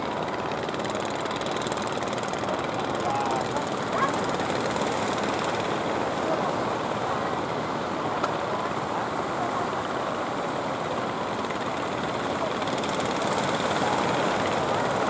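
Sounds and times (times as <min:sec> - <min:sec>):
boat engine running: 0:00.0 - 0:15.0
water churning along hull: 0:00.0 - 0:15.0.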